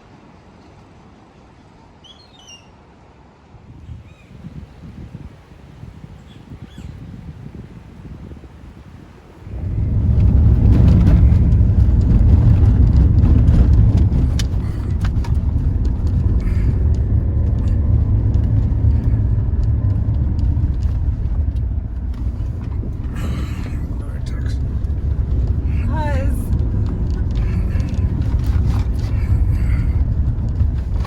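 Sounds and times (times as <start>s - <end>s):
car driving on dirt road: 4.4s - 31.0s.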